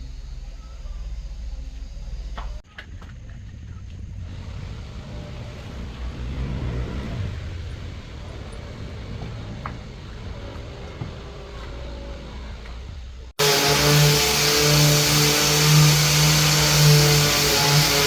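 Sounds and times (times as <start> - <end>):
engine rumbling: 1.2 - 18.0.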